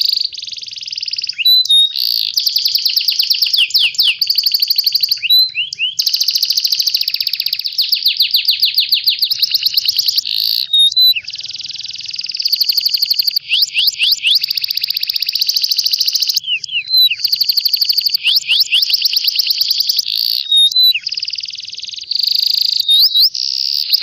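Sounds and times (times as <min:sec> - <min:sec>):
bird whistled notes: 0:00.0 - 0:24.0
songbird buzzy trills: 0:00.0 - 0:24.0.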